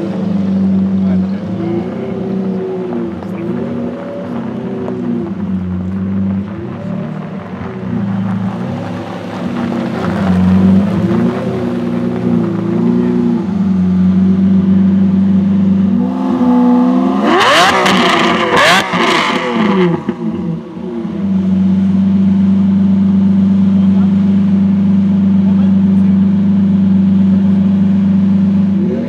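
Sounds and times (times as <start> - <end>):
sports car engine idling and revving: 0.0 - 29.0.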